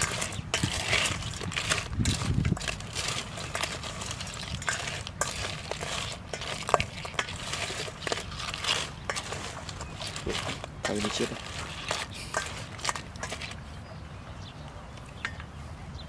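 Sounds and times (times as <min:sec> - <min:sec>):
crabs clicking in metal bowl: 0:00.0 - 0:13.6.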